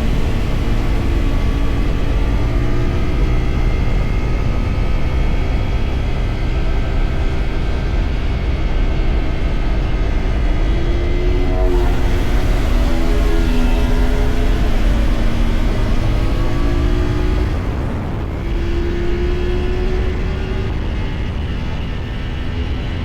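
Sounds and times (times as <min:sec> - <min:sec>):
motorcycle engine running: 0:00.0 - 0:22.9
wind rush: 0:00.0 - 0:23.0.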